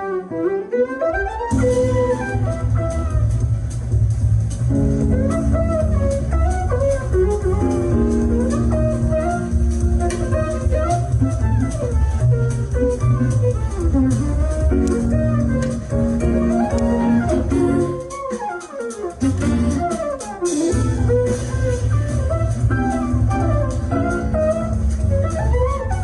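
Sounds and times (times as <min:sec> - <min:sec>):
instrumental music: 0:00.0 - 0:26.0.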